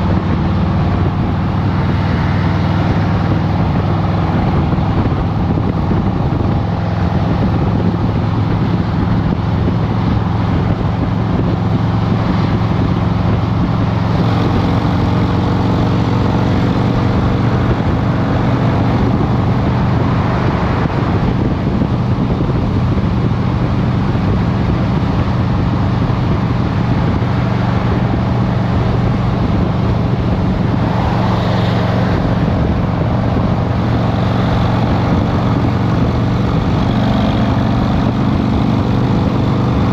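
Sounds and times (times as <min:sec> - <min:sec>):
motorcycle engine running: 0:00.0 - 0:39.9
road traffic: 0:00.0 - 0:39.9.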